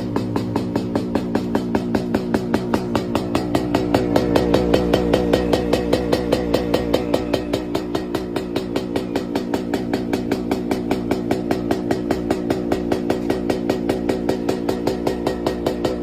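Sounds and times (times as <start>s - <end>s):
two-stroke motorcycle engine idling: 0.0s - 16.0s.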